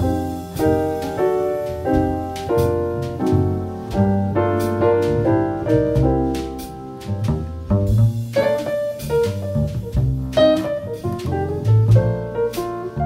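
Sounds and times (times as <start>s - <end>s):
bass line: 0.0s - 13.0s
jazz piano chords: 0.0s - 13.0s.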